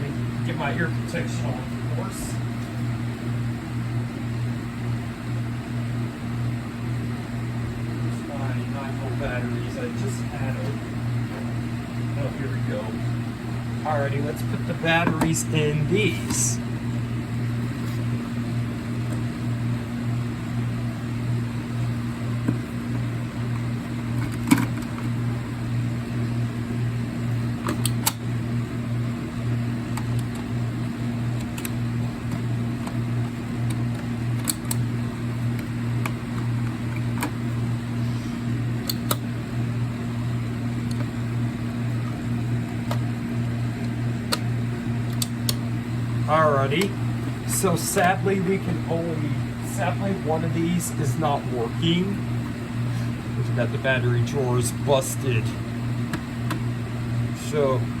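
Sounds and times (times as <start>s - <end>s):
low electric hum: 0.0s - 58.0s.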